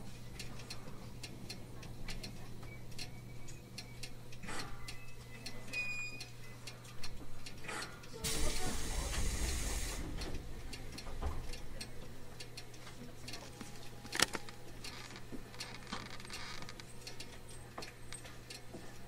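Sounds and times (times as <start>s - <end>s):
steady low hum: 0.0s - 19.0s
light clicks and ticks: 0.4s - 8.2s, 10.2s - 19.0s.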